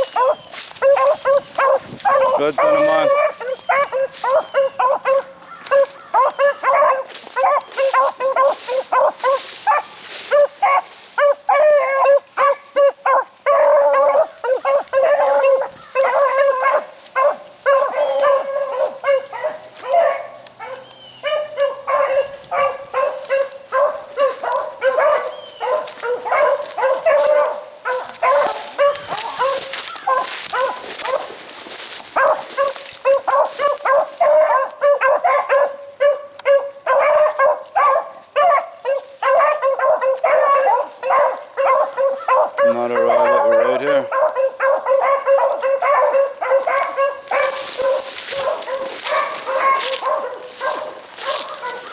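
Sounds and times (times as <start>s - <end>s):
beagles baying: 0.0s - 51.9s.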